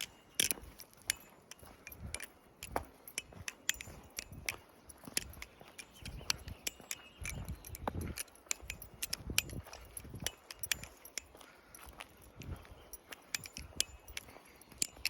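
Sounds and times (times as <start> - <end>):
butterfly knife clicking: 0.0 - 15.0.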